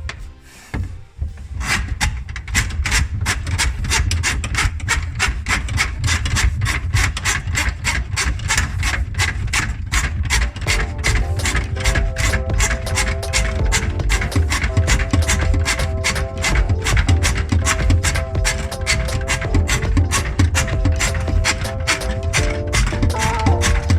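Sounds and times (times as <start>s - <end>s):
rasping rubbing strokes: 0.0s - 23.9s.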